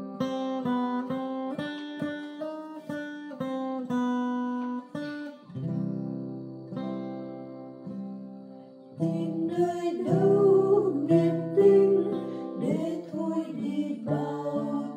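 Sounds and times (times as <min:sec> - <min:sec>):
acoustic guitar strumming chords: 0:00.0 - 0:14.9.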